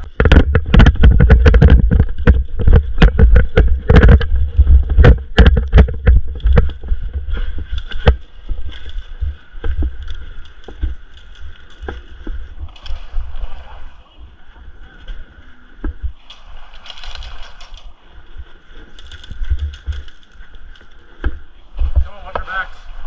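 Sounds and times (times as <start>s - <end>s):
clicks and knocks from gear: 0.0s - 13.2s, 15.8s - 21.4s
wind rumble on microphone: 0.0s - 23.0s.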